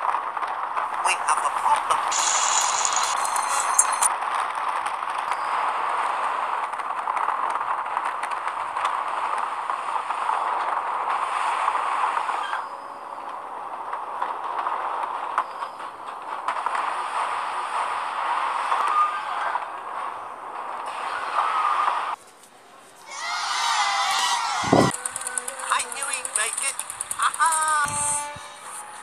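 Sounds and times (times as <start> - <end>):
train rolling along rails: 0.0 - 29.0.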